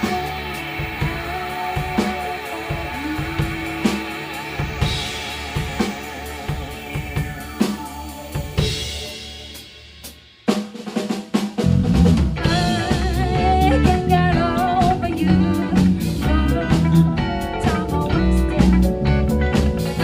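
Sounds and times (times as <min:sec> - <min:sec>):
drum fill with snare: 0:00.0 - 0:20.0
pop band playing: 0:00.0 - 0:20.0.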